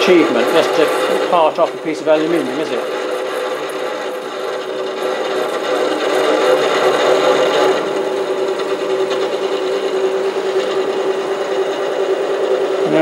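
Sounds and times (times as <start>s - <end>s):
lathe motor whine: 0.0s - 13.0s.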